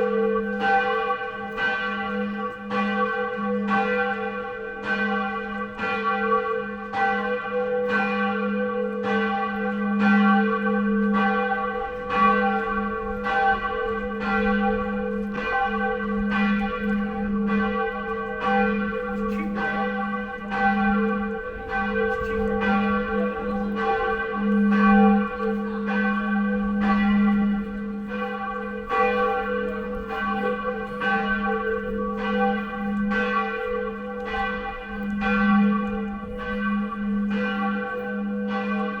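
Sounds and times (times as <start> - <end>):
church bell tolling: 0.0 - 39.0.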